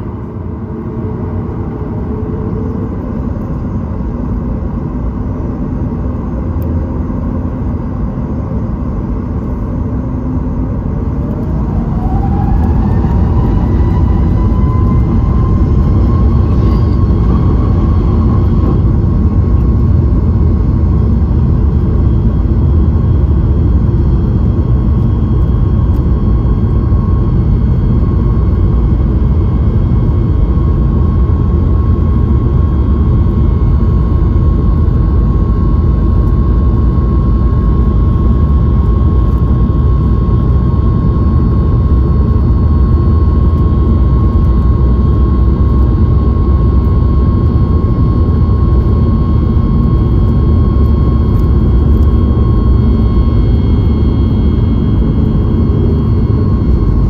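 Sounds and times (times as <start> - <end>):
jet engines rumbling in cabin: 0.0 - 57.0
thin steady engine whine: 0.0 - 57.0.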